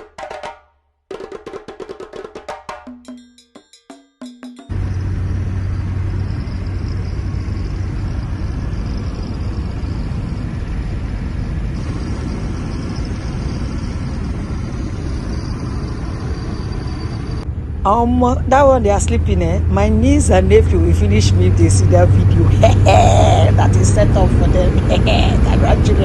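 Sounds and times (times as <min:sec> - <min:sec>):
engine rumble: 0:04.7 - 0:26.0
road noise inside car: 0:04.7 - 0:26.0.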